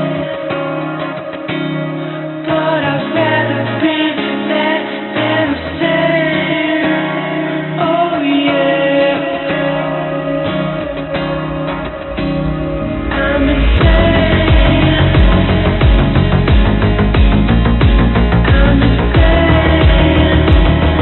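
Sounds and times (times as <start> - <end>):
woman singing: 0.0 - 16.2, 18.4 - 21.0
guitar accompaniment: 0.0 - 21.0.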